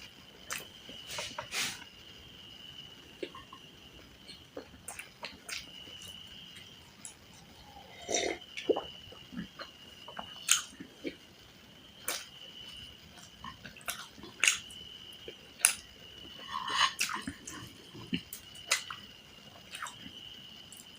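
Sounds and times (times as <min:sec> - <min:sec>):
steady high whine: 0:00.0 - 0:20.9.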